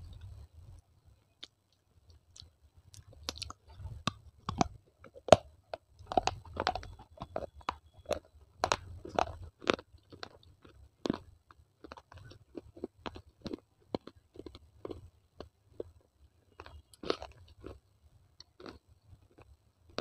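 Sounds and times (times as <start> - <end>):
mouth crunching baked clay: 1.3 - 20.0.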